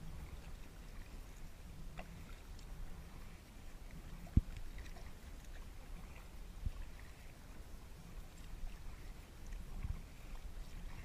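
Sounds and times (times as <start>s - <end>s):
paddle blades splashing: 0.0s - 11.0s
steady low rumble: 0.0s - 11.0s
water lapping at hull: 0.0s - 11.0s.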